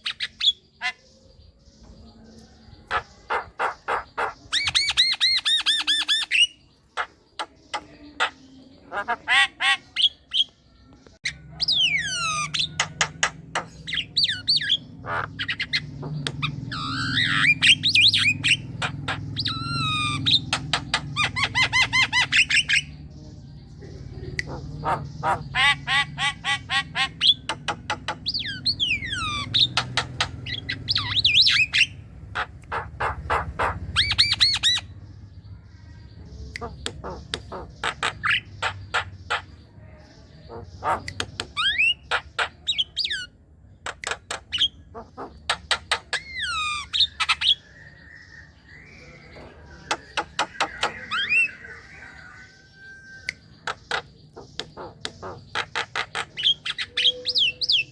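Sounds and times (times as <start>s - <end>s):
myna singing clicks and squawks: 0.0s - 57.9s.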